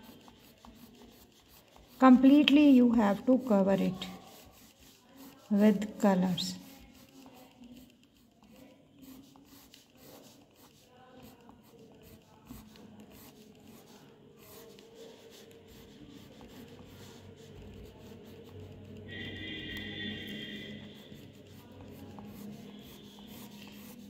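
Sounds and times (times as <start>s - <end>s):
wax crayon rubbing on paper: 0.0s - 24.0s.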